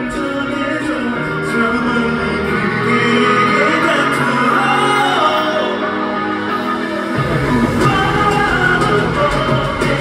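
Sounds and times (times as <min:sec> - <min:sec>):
man singing into microphone: 0:00.0 - 0:06.8, 0:07.5 - 0:10.0
amplified pop band backing: 0:00.0 - 0:10.0.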